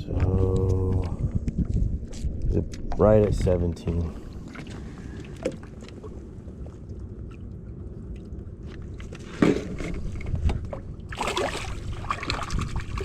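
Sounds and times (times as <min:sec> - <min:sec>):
wind and water noise: 0:00.0 - 0:13.0.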